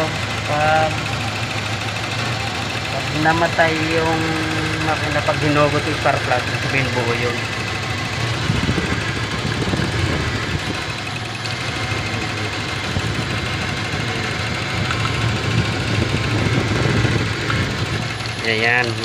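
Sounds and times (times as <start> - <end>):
engine idling roughly with misfires: 0.0 - 19.0.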